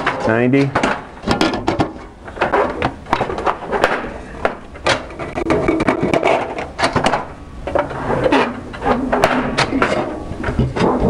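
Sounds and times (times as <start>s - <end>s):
metal sheet rattling and scraping: 0.0s - 11.0s.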